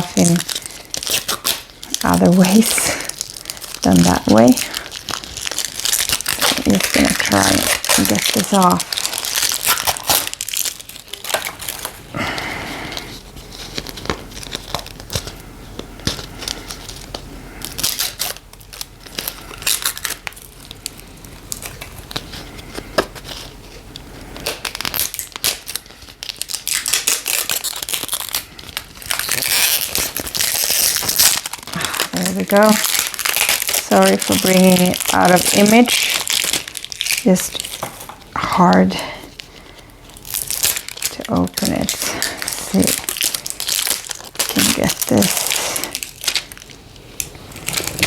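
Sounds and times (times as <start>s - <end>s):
plastic packaging crinkling and tearing: 0.0s - 48.0s.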